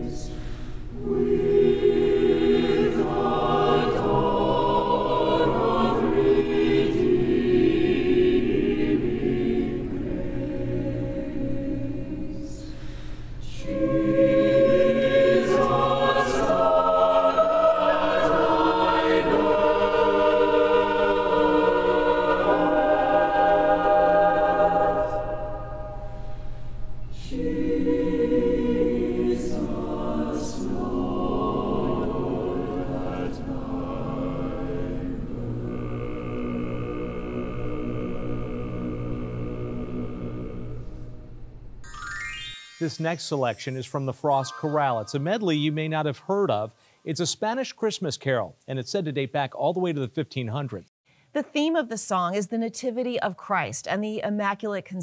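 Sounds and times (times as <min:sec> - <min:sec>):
choir singing: 0:00.0 - 0:46.6.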